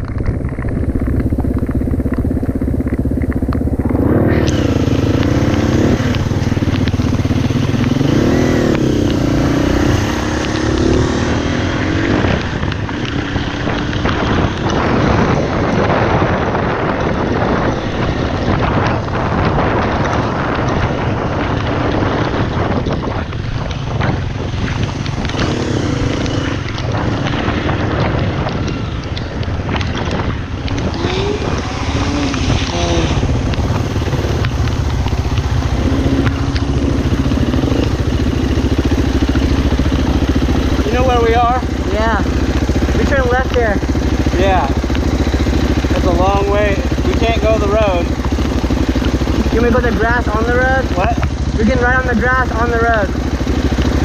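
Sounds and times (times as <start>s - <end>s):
dense rushing noise: 0.0s - 54.0s
dirt bike engine revving: 0.8s - 23.2s, 23.8s - 54.0s.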